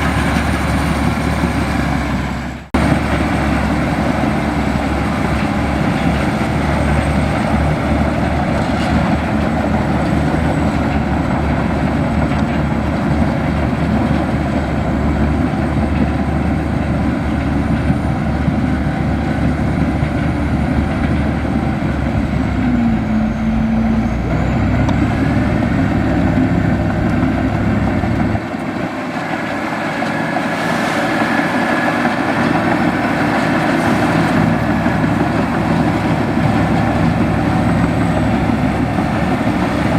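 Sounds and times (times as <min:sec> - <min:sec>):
bulldozer diesel engine rumble: 0:00.0 - 0:39.9.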